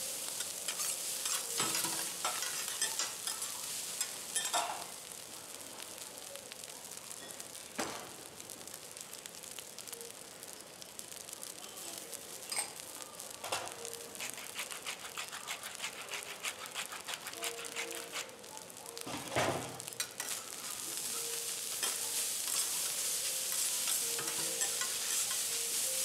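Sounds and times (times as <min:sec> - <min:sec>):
fried rice sizzling on a griddle: 0:00.0 - 0:26.0.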